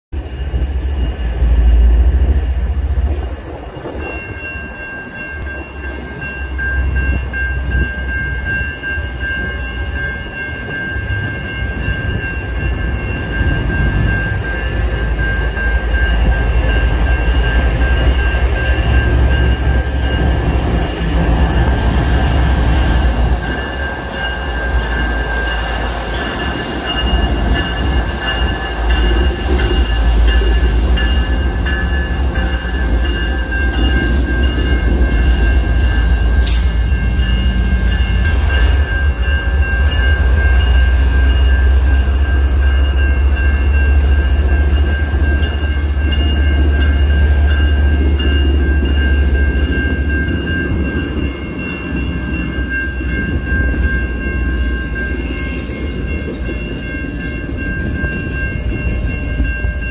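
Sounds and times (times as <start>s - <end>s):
diesel locomotive rumble: 0.1s - 59.9s
railroad crossing bell ringing: 0.1s - 59.9s.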